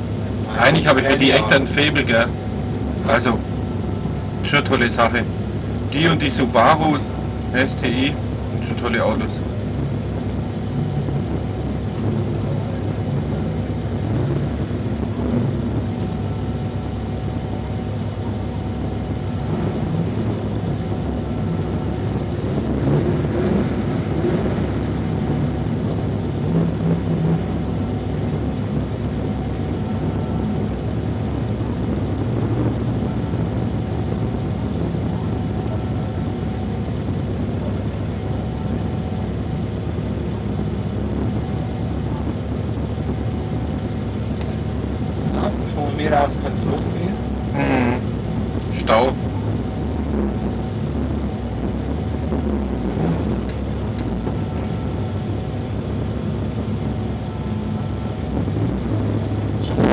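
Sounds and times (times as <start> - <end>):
car engine running at low revs: 0.0 - 59.9.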